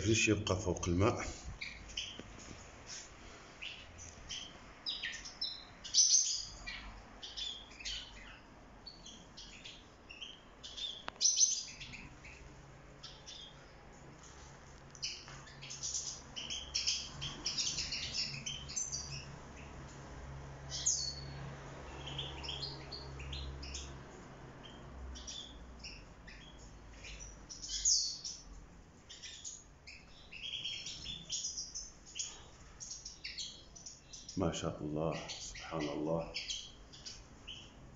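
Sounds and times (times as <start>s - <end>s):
goldfinches chirping and twittering: 1.0s - 2.2s, 3.6s - 14.4s, 15.0s - 37.9s.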